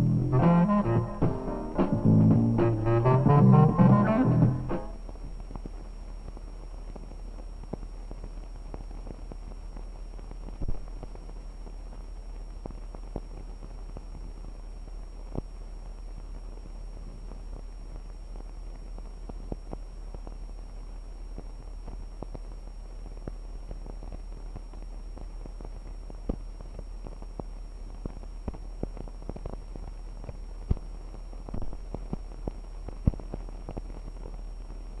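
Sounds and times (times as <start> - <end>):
faint high whine: 0.0 - 35.0
film crackles and pops: 0.0 - 35.0
film soundtrack hum and hiss: 0.0 - 35.0.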